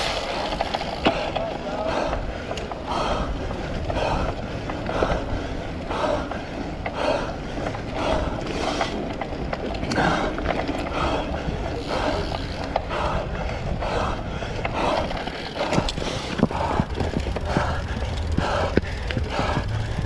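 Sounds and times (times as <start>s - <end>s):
bike tyres rolling on rough ground: 0.0s - 20.0s
wind noise: 0.0s - 20.0s.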